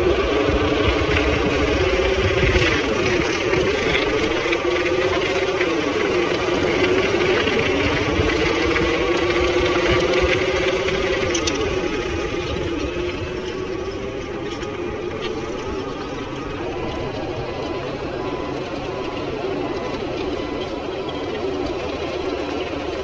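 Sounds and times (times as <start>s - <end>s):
toy truck motor drone: 0.0s - 23.0s.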